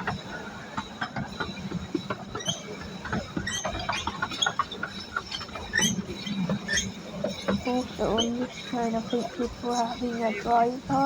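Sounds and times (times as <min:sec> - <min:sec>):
miniature train wheels rattling: 0:00.8 - 0:11.0.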